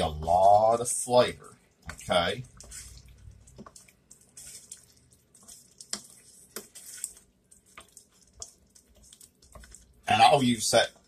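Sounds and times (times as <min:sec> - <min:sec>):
wet squelching of pasta: 0:00.0 - 0:11.0.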